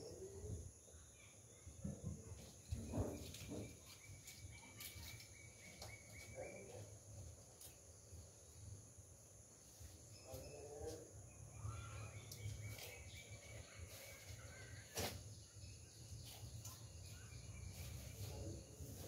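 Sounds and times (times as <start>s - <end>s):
faint bird chirps: 0.0s - 8.7s, 9.7s - 19.0s.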